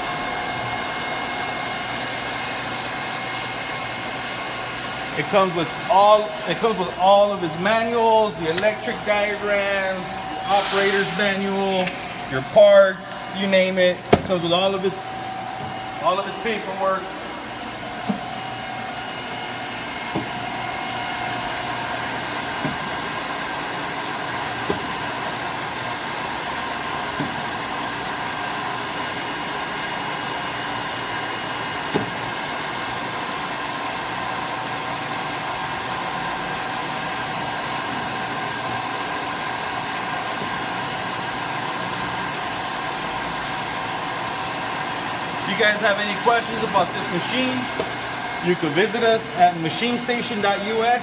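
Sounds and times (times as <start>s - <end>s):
grinder hum with whining tones: 0.0s - 51.0s.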